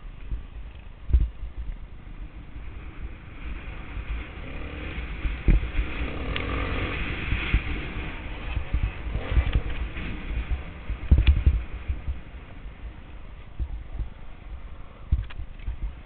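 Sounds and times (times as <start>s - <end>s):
wind rumble on microphone: 0.0s - 16.0s
motorcycle engine running: 1.1s - 16.0s.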